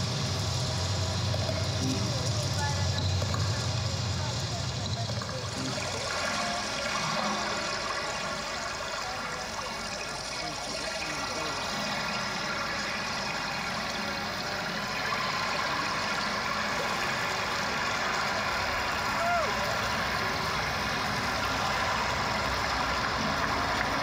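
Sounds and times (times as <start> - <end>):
murmur of outdoor crowd: 0.0 - 24.0.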